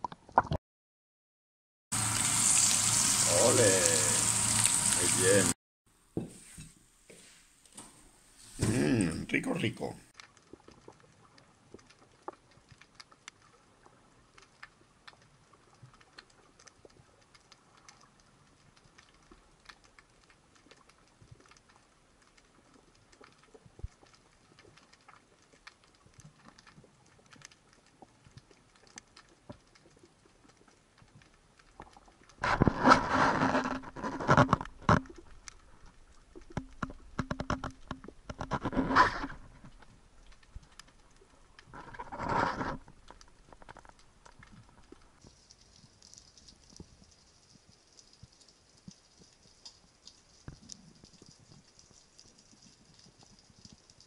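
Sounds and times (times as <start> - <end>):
underwater crackling and clicking: 0.0 - 0.6, 9.0 - 54.0.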